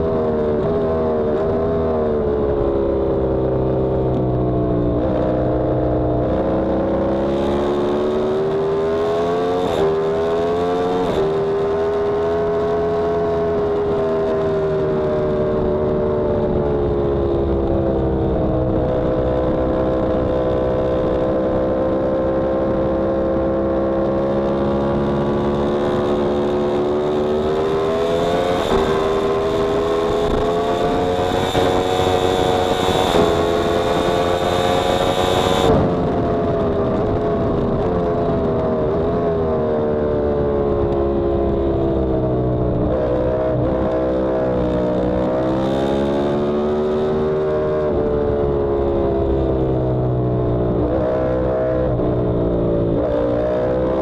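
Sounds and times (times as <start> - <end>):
motorcycle engine at track pace: 0.0 - 54.0.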